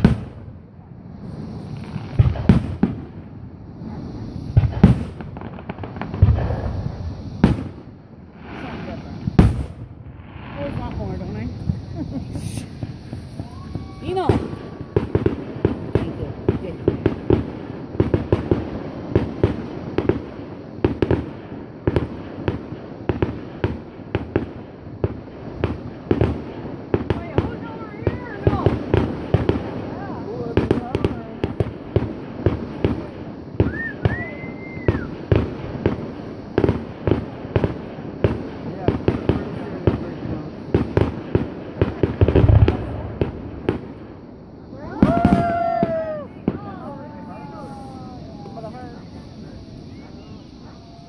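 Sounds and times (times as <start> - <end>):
firework crackling: 0.0 - 51.0
firework shells booming: 0.0 - 51.0.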